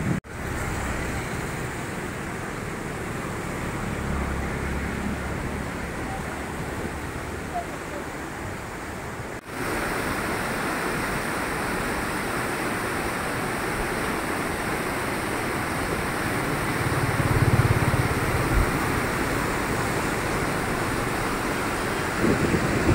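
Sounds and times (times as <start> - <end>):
river rushing through rapids: 0.2 - 22.9.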